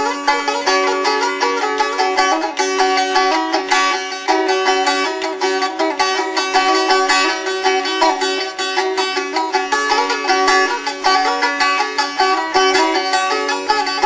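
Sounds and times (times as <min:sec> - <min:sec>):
strum stick strummed fast: 0:00.0 - 0:14.0.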